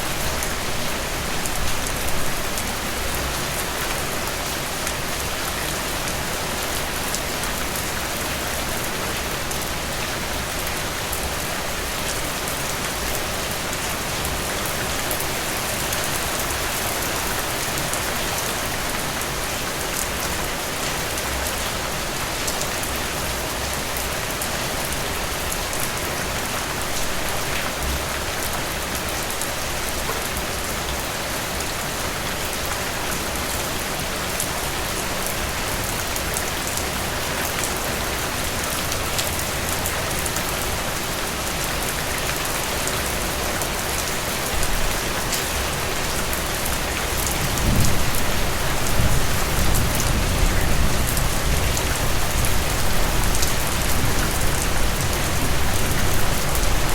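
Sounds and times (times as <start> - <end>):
steady rain patter: 0.0 - 56.9.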